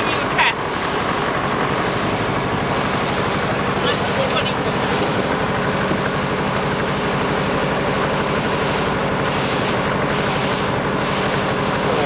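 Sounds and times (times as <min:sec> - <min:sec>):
boat engine running: 0:00.0 - 0:12.0
wind: 0:00.0 - 0:12.0
water hissing: 0:00.6 - 0:12.0.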